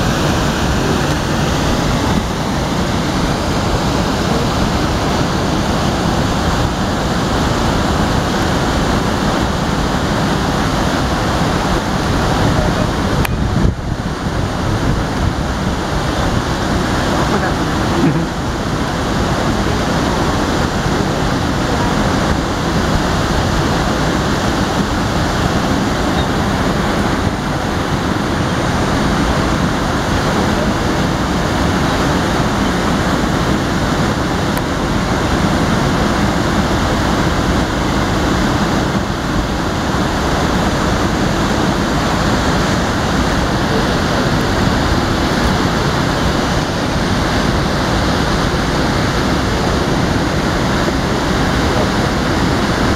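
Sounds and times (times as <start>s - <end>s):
fast-flowing river rushing: 0.0s - 52.9s.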